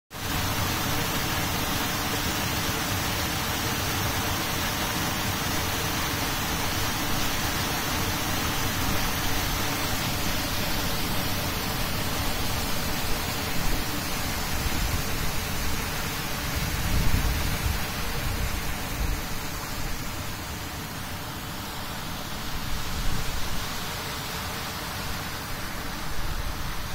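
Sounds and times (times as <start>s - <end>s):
waterfall rushing: 0.2s - 26.9s.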